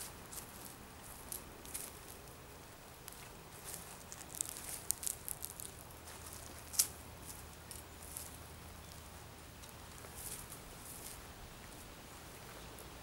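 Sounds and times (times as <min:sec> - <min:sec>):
footsteps on dry leaves: 0:00.0 - 0:02.2, 0:03.0 - 0:12.6
faint outdoor rumble: 0:00.0 - 0:13.0.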